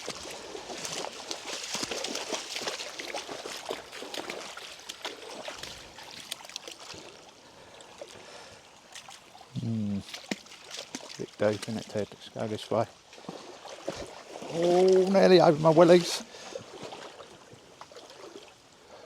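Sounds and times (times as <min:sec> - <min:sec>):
footsteps sloshing through water: 0:00.0 - 0:18.8.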